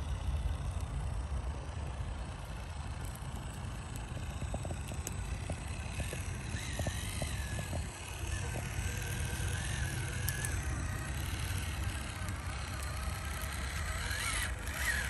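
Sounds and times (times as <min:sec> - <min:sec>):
steady low rumble: 0:00.0 - 0:14.8
electric motor whining: 0:00.0 - 0:15.0.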